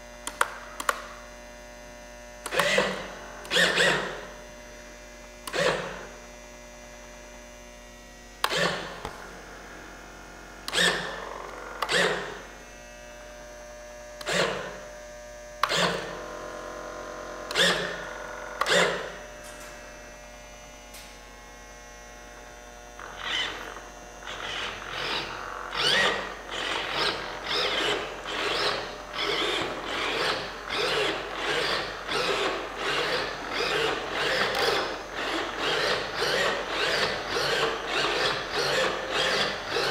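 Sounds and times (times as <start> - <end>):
steady electrical hum: 0.0 - 39.9
electric servos whirring: 2.4 - 4.5, 5.3 - 6.2, 8.4 - 13.1, 14.1 - 39.9.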